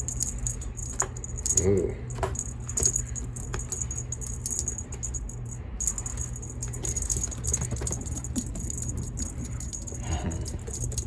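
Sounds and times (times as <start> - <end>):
cat toy jingling: 0.0 - 11.0
low hum: 0.0 - 11.0.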